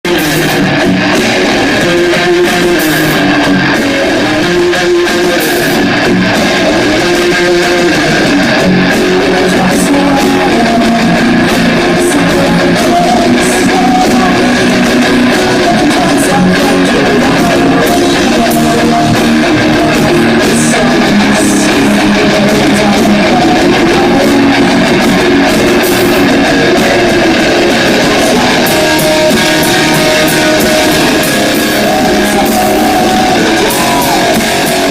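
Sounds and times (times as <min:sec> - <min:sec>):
electric guitar: 0:00.0 - 0:34.9
live rock band playing: 0:00.0 - 0:34.9.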